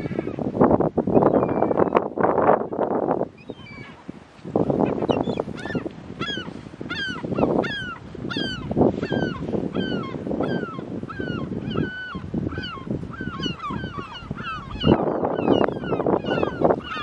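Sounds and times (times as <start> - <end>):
gulls calling: 1.1 - 2.8, 3.4 - 4.0, 4.6 - 17.0.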